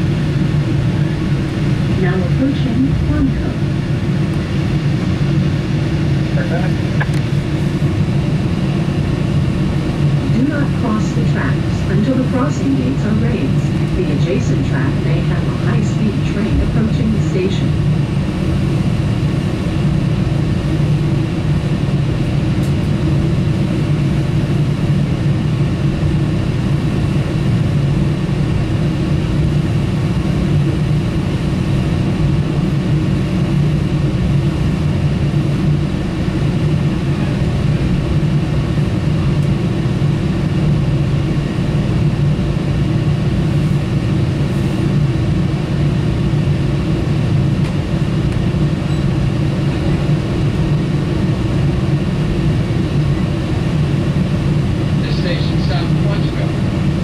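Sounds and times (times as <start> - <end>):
train running hum and wheel noise: 0.0 - 57.0.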